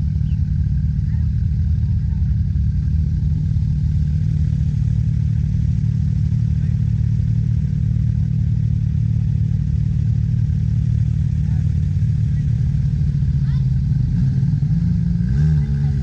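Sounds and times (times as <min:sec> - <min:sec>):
quad engine idling: 0:00.0 - 0:16.0.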